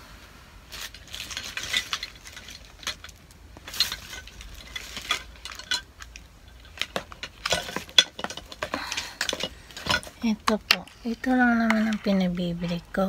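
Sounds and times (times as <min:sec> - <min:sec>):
short rustling: 0:00.6 - 0:13.0
small objects clicking and clinking: 0:00.8 - 0:13.0.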